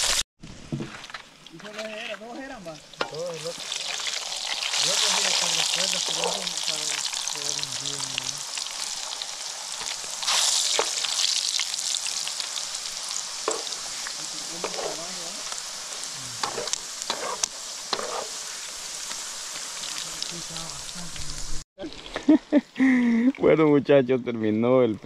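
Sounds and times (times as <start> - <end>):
food sizzling in hot oil: 0.0 - 0.7, 1.3 - 22.4.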